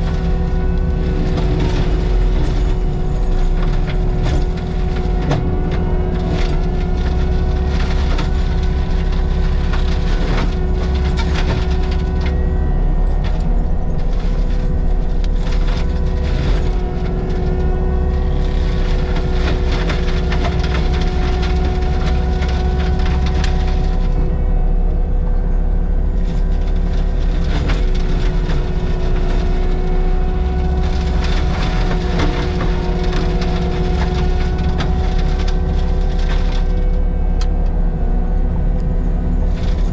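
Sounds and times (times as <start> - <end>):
wood cracking and snapping: 0.0 - 24.3, 26.2 - 37.6
diesel engine running: 0.0 - 39.9
high whine: 0.0 - 39.9.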